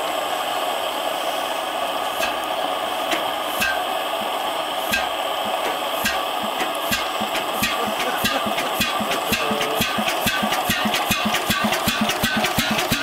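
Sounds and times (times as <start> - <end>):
steady hiss: 0.0 - 13.0
engine firing thumps: 2.2 - 13.0.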